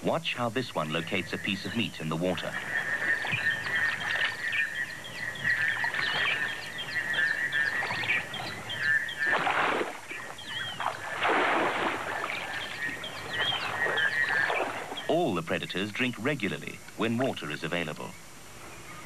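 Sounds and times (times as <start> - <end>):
birds chirping: 0.0 - 19.0
water splashes: 0.7 - 17.5.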